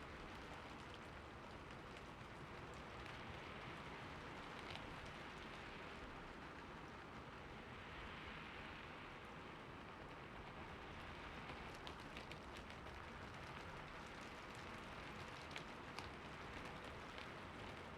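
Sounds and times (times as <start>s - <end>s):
light rain falling: 0.0s - 17.9s.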